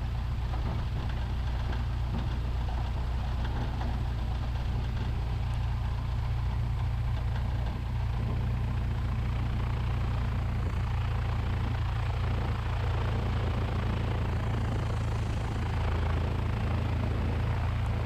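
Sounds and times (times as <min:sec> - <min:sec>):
piston aircraft engine idling: 0:00.0 - 0:18.0.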